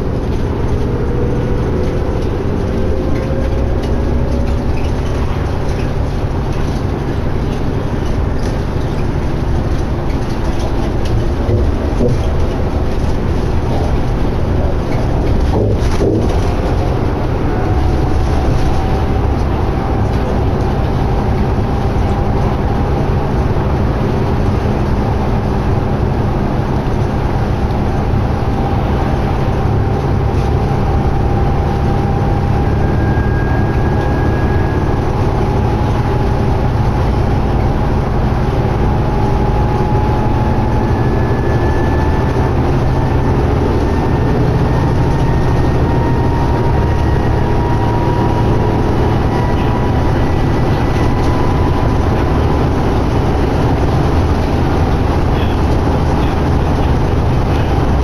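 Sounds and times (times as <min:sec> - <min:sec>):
bus engine drone and road noise: 0:00.0 - 0:58.0
faint rising whine: 0:11.0 - 0:58.0.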